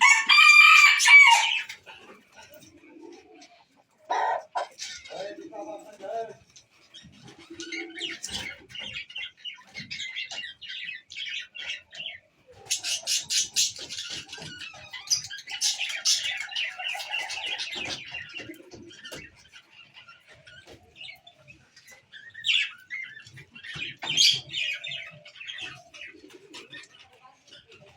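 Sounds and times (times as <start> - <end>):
many birds chirping: 0.0 - 27.9.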